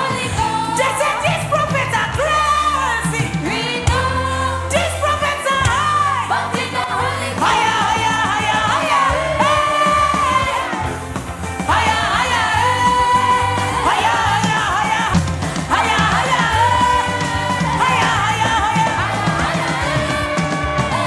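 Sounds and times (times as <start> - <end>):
band accompaniment with pulsing bass: 0.0 - 21.0
person singing gospel: 0.0 - 21.0.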